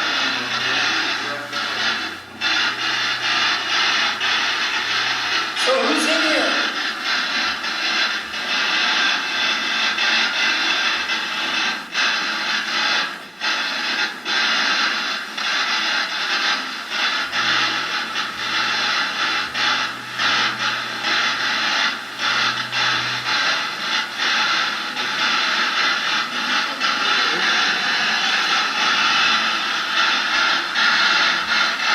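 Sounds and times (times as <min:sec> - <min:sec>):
choppy radio static: 0:00.0 - 0:31.9.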